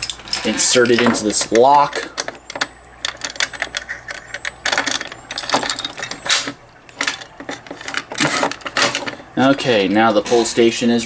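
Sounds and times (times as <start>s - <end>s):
metal clicks and clacks: 0.0s - 11.0s.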